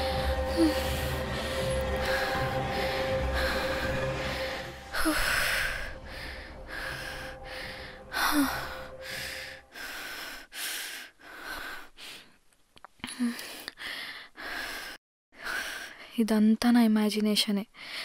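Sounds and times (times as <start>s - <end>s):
person breathing heavily: 0.0s - 12.4s, 13.0s - 16.1s, 17.8s - 18.0s.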